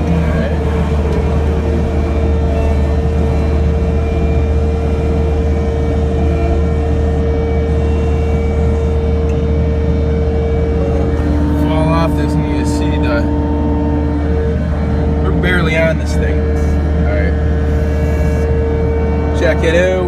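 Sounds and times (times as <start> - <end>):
diesel engine drone: 0.0 - 20.0
high whine: 0.0 - 20.0.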